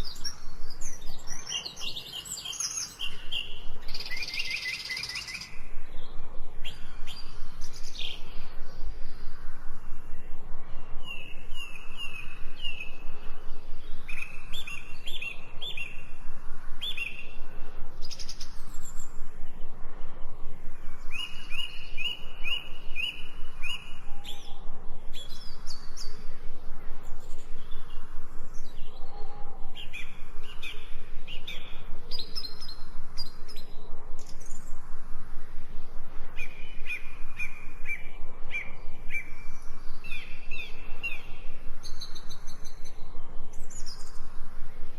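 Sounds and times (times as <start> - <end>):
songbirds chirping: 0.0 - 44.9
steady background hiss: 0.0 - 44.9.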